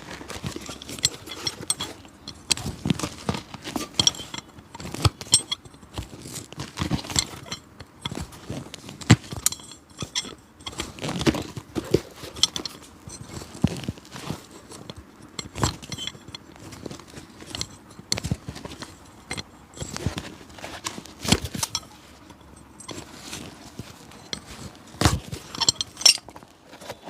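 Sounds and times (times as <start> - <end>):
tools tapping and scraping shoe: 0.0 - 27.0.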